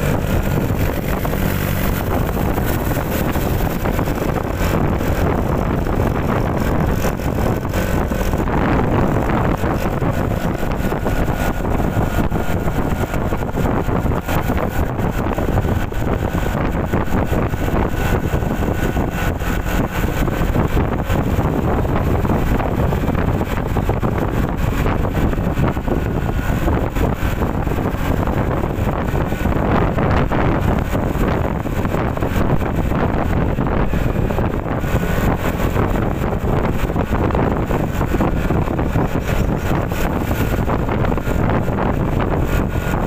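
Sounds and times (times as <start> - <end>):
motor scooter engine droning: 0.0 - 43.0
wind rushing over microphone: 0.0 - 43.0.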